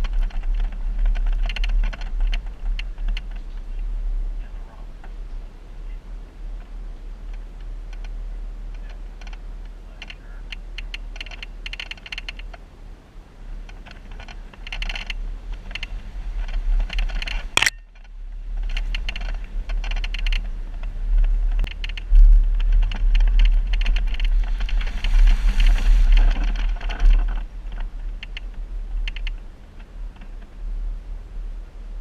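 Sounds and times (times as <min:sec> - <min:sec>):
vehicle rattling and clicking: 0:00.0 - 0:12.6, 0:13.5 - 0:30.6
low engine rumble: 0:00.0 - 0:32.0.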